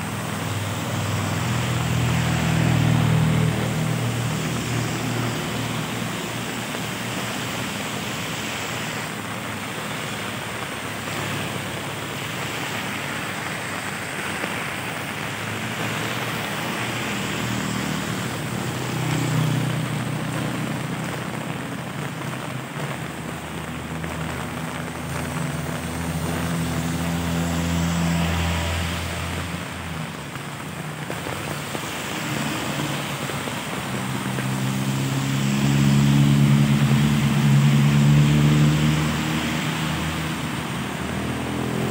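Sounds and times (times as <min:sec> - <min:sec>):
cars driving on wet road: 0:00.0 - 0:41.9
rain falling on street: 0:00.0 - 0:41.9.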